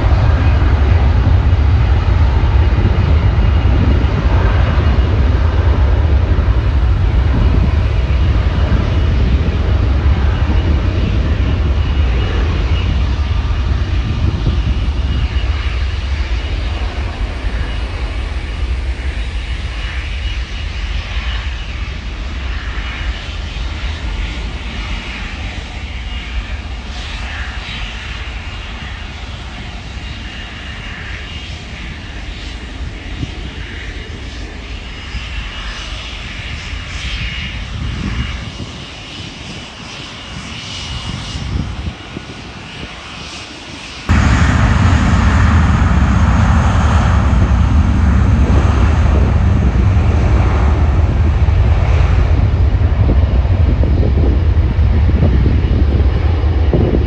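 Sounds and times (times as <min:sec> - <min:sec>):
close jet engine on runway: 0:00.0 - 0:57.0
jet engines rushing and whining: 0:00.0 - 0:57.0.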